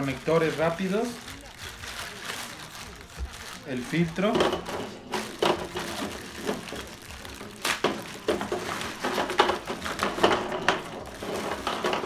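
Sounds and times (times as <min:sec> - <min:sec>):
plastic bag rustling: 0:00.0 - 0:12.0
plastic pieces clicking: 0:00.0 - 0:12.0.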